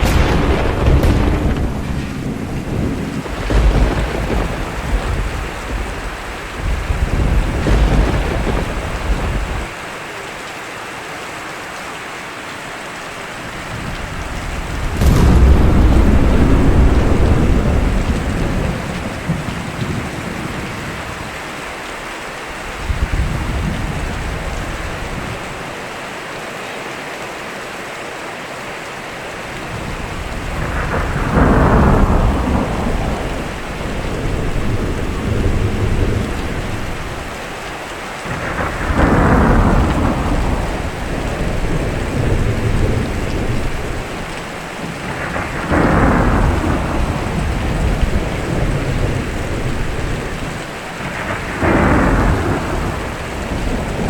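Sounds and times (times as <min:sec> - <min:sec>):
thunder crack and rumble: 0:00.0 - 0:09.8, 0:13.5 - 0:25.7, 0:29.5 - 0:54.0
heavy rain: 0:00.0 - 0:54.0.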